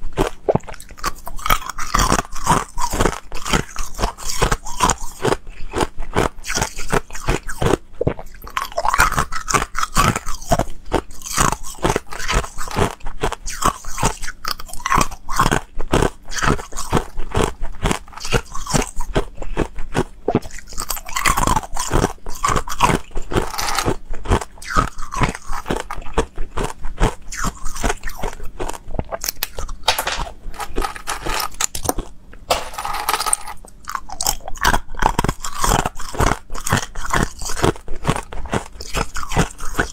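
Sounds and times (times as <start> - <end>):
chewing crunchy ice cubes: 0.0 - 39.9.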